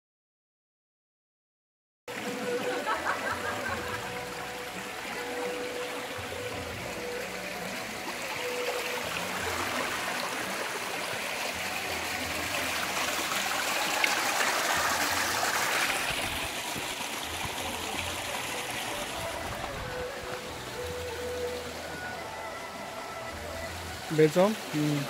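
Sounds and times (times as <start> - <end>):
stream trickling over rocks: 2.1 - 25.0.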